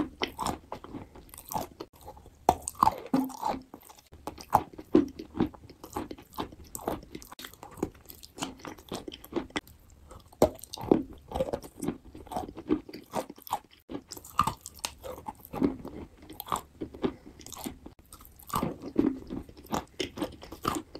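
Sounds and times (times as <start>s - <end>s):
chewing and crunching chalk: 0.0s - 20.9s.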